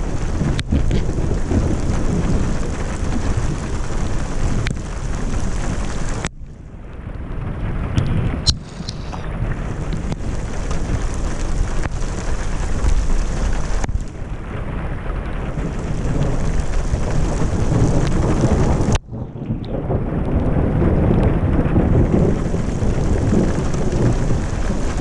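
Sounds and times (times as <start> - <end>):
heavy rain: 0.0 - 25.0
raindrops ticking close by: 0.0 - 25.0
thunder rumble: 0.0 - 25.0
wind on microphone: 0.0 - 25.0.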